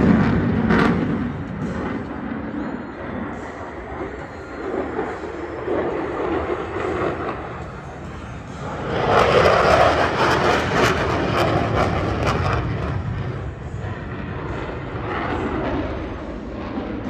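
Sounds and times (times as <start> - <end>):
jet engine roar with crackling: 0.0 - 17.0.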